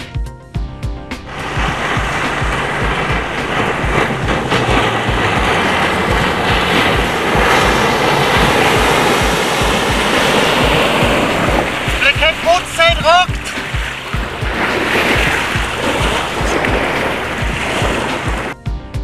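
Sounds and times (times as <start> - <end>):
background music with beat: 0.0 - 19.0
outboard motor running: 1.1 - 18.6
water rushing: 1.2 - 18.6
wind noise: 1.3 - 18.6.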